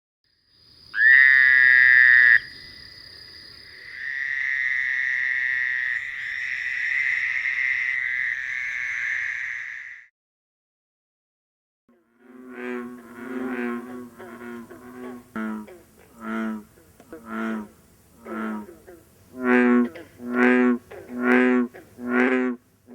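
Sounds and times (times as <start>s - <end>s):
toads buzzing calls: 0.9s - 10.0s, 12.0s - 22.9s.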